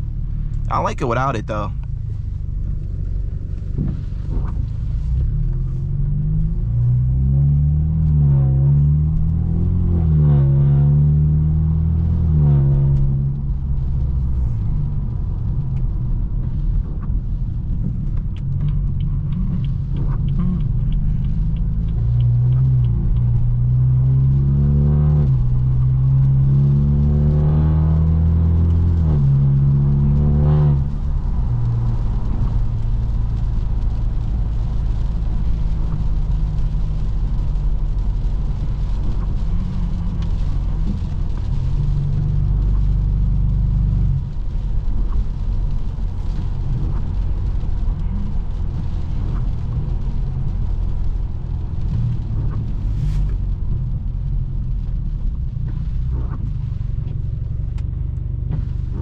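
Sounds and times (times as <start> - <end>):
car exhaust under acceleration: 0.0 - 59.0.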